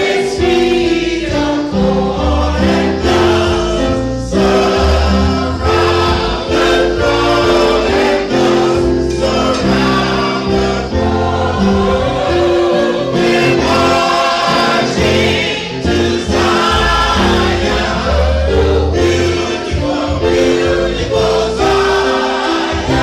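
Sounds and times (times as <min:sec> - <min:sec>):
bass accompaniment: 0:00.0 - 0:23.0
choir singing gospel: 0:00.0 - 0:23.0.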